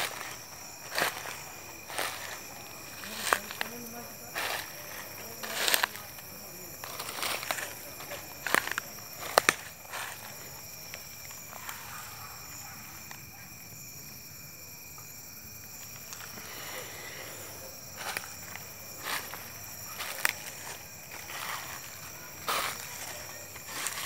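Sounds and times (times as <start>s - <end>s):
footsteps crunching dry leaves: 0.0s - 11.8s, 15.9s - 24.0s
night insects chorus: 0.0s - 24.0s.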